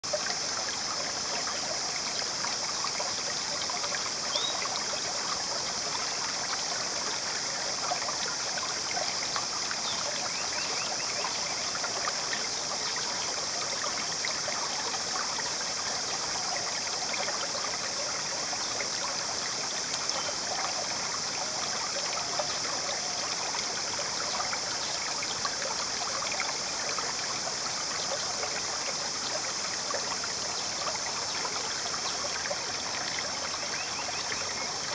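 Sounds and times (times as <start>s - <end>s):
shallow river trickling: 0.0s - 34.9s.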